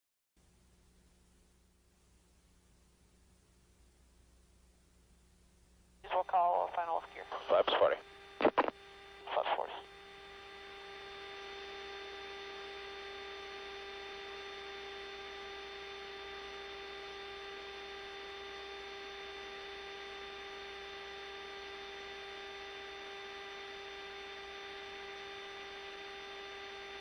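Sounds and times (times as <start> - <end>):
electrical hum: 1.0 - 27.0.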